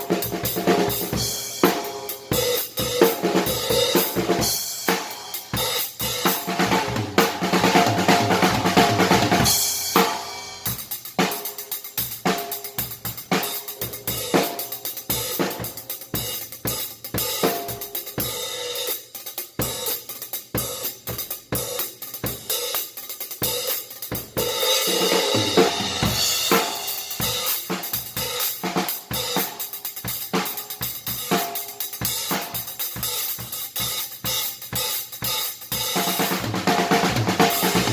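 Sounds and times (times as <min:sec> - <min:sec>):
kick and snare drums: 0:00.0 - 0:37.9.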